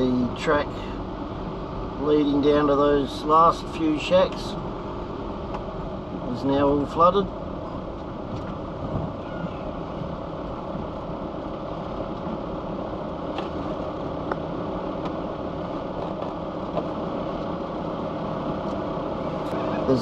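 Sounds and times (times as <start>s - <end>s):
vehicle engine and road hum: 0.0s - 20.0s.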